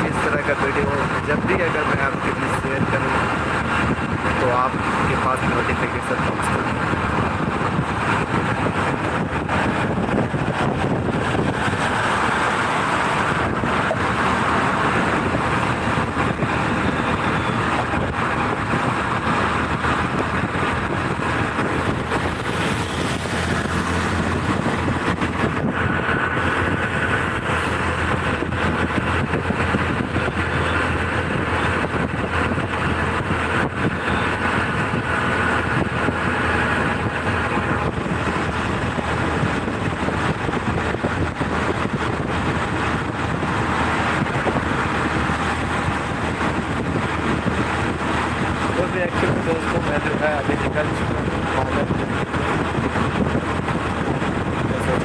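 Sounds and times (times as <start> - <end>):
road noise: 0.0 - 55.0
wind rush: 0.0 - 55.0.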